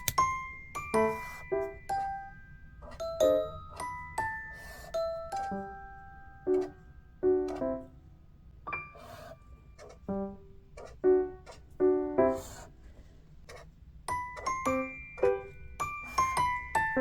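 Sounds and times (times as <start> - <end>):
soft piano-like keyboard music: 0.0 - 17.0.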